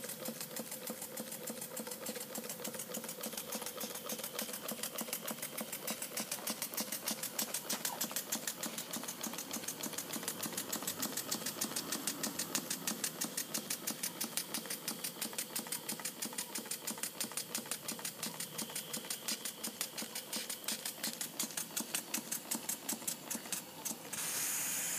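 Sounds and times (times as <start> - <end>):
light mechanical clatter: 0.0 - 24.2
model steam engine exhaust beat: 0.0 - 24.9
steam hissing: 0.0 - 24.9.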